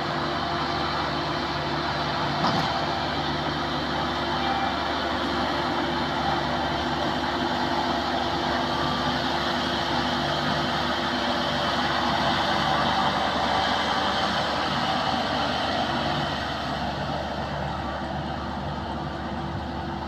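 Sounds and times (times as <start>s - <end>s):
heavy engine running steadily: 0.0s - 20.0s.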